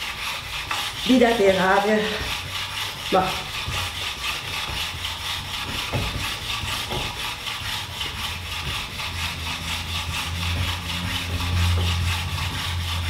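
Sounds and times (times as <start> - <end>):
stone grinding on stone: 0.0 - 13.0.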